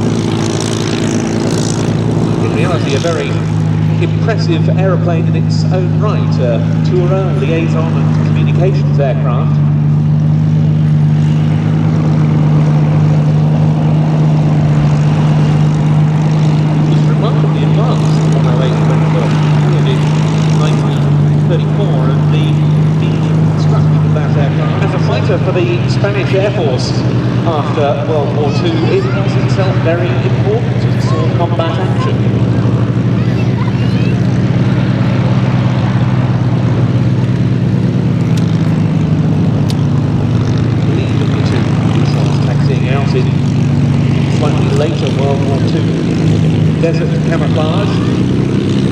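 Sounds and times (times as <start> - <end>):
propeller plane engine droning: 0.0 - 48.9.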